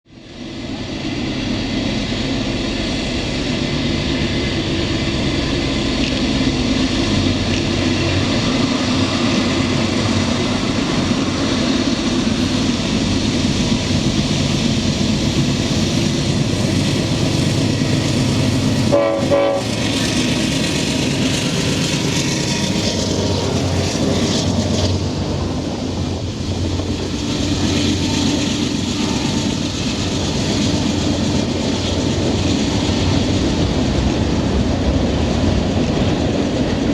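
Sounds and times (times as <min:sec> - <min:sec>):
diesel locomotives running: 0:00.1 - 0:36.9
train wheels clacking over track: 0:01.6 - 0:36.9.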